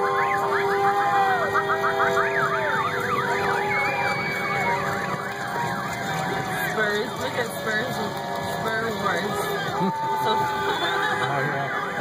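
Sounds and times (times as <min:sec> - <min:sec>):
sirens wailing and yelping: 0:00.0 - 0:12.0.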